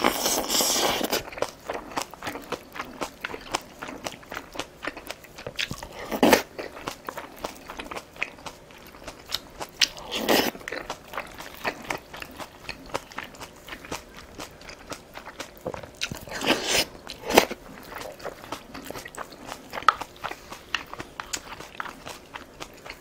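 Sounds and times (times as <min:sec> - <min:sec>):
person chewing with crunches: 0:00.0 - 0:23.0.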